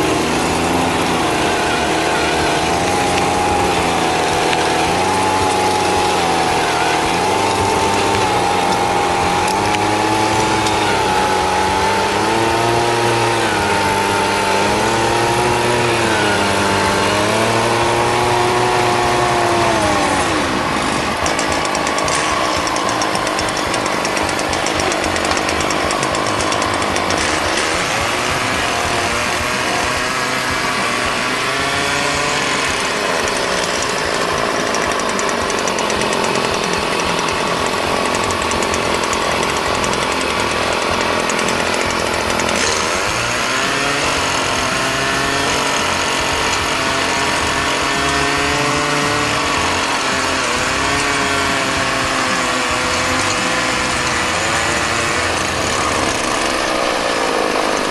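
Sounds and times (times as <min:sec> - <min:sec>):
machine engine running: 0:00.0 - 0:57.9.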